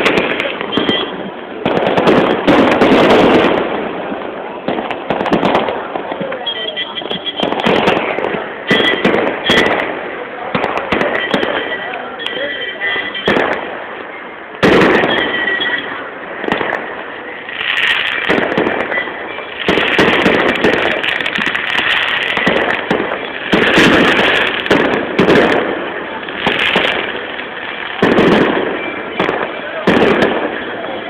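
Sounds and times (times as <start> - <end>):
firecrackers banging: 0.0 - 31.0.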